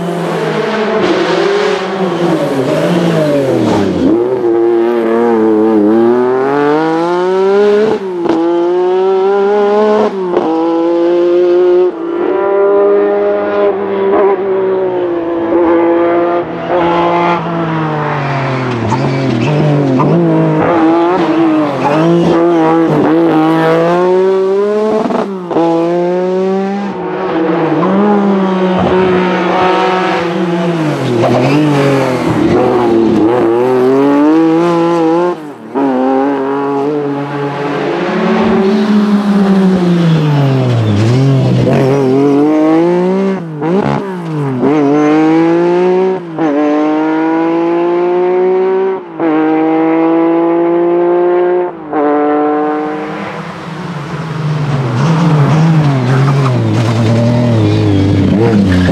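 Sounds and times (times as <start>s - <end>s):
rally car engine revving hard: 0.0s - 58.9s.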